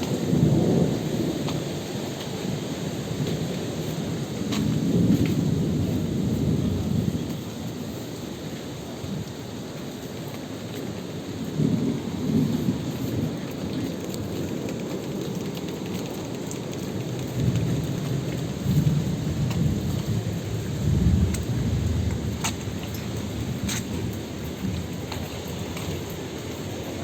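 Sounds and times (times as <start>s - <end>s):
thunder rumbling: 0.0s - 9.6s, 11.1s - 27.0s
steady rain: 0.0s - 27.0s.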